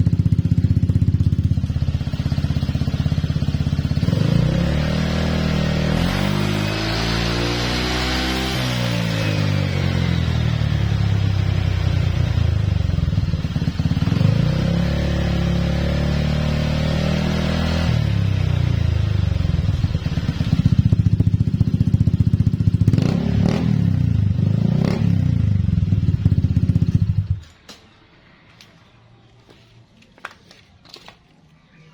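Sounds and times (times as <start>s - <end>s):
scooter engine revving: 0.0s - 27.4s.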